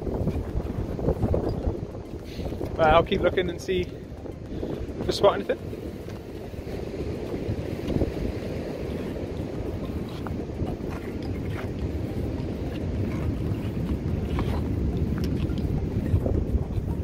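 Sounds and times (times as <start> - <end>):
surf running up beach: 0.0 - 17.0
wind buffeting microphone: 0.0 - 17.0.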